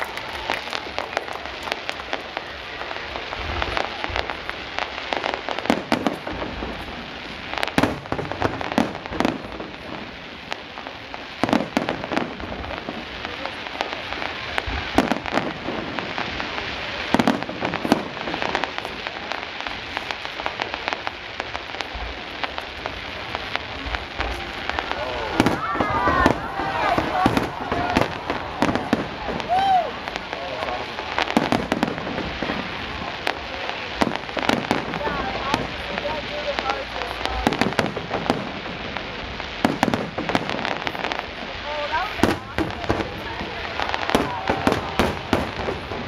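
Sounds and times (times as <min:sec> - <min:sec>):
fireworks bangs: 0:00.0 - 0:46.0
fireworks crackling: 0:00.0 - 0:46.0.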